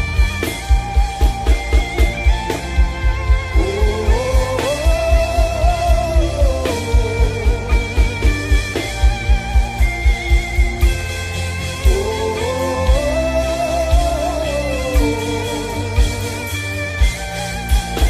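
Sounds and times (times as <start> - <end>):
atmospheric worship music: 0.0 - 18.0
pulsing low beat: 0.0 - 18.0.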